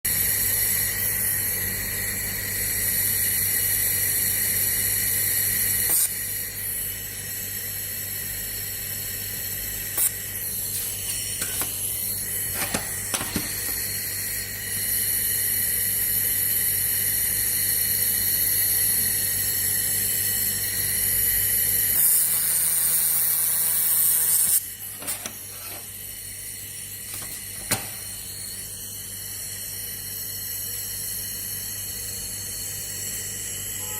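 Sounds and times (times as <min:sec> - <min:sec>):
high-pitched whine and hiss: 0:00.1 - 0:33.9
laser welding machine humming: 0:00.1 - 0:33.9.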